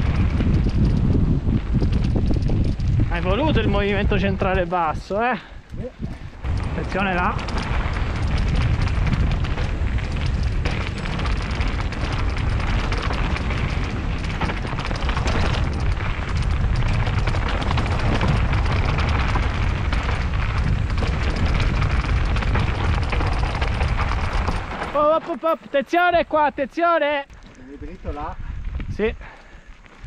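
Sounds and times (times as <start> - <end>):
wind rumble on microphone: 0.0 - 25.2, 26.1 - 30.0
bike rattling over stones: 0.0 - 30.0.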